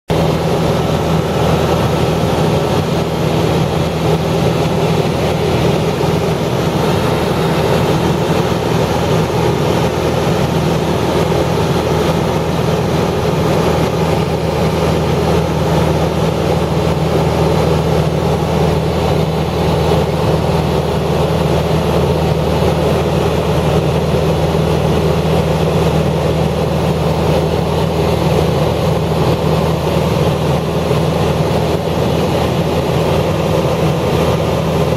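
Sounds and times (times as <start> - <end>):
low mechanical drone: 0.1 - 34.9.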